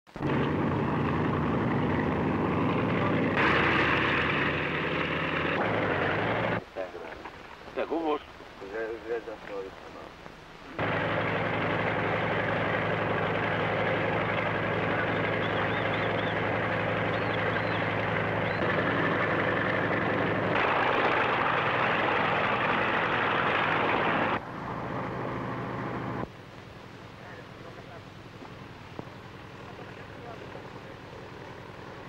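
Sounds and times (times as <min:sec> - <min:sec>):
low hum: 0:00.1 - 0:06.6, 0:10.5 - 0:32.0
aircraft engines droning: 0:00.2 - 0:06.7, 0:10.8 - 0:32.0.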